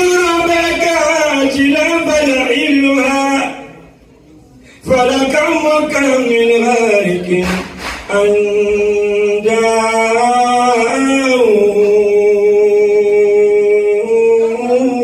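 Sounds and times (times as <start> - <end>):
man chanting into microphone: 0.0 - 3.9, 4.8 - 15.0.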